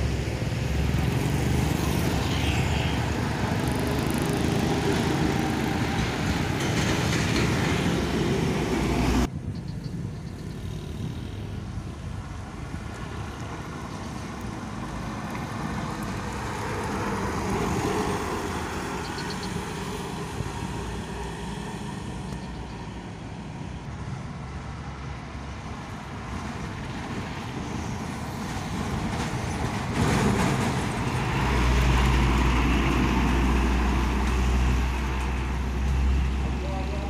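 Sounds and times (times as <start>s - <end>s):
diesel trucks passing: 0.0s - 37.0s.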